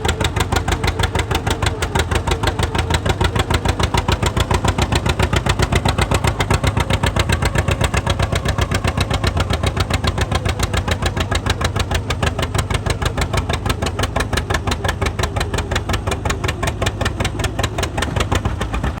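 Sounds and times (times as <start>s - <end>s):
tractor engine popping exhaust: 0.0s - 19.0s.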